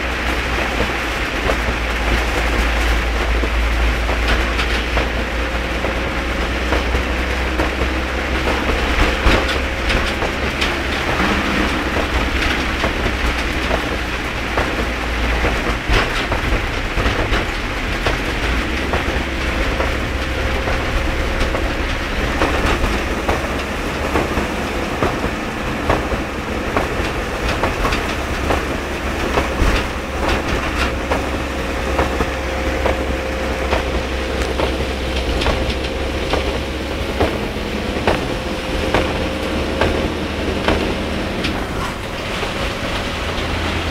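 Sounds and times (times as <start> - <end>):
deep rumble: 0.0 - 43.9
very heavy rain: 0.0 - 43.9.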